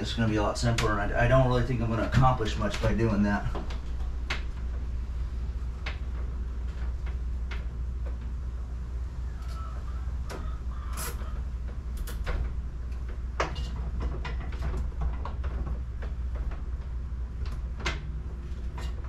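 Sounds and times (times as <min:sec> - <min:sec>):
steady low hum: 0:00.0 - 0:19.0
wires clicking and rustling: 0:00.0 - 0:19.0.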